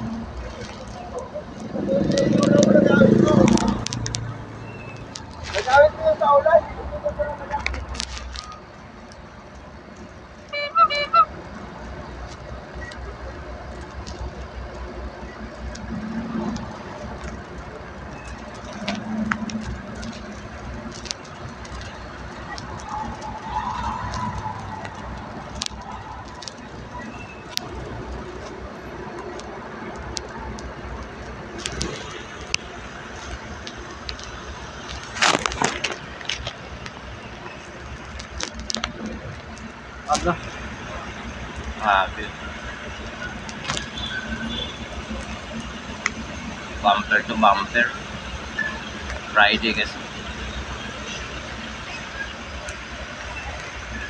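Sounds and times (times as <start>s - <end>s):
sharp crackling and clicking: 0.0s - 6.2s, 7.1s - 10.6s, 11.5s - 54.0s
traffic rumble: 0.0s - 54.0s.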